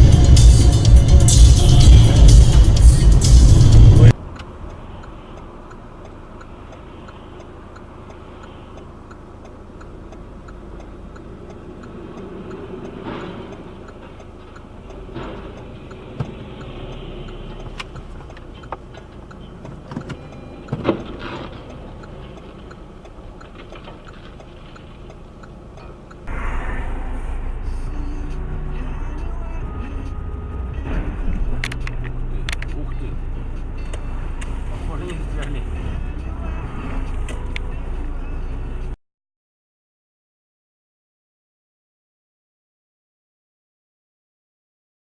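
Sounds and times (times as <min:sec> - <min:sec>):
car engine and road rumble: 0:00.0 - 0:39.0
faint ticking: 0:02.7 - 0:39.0.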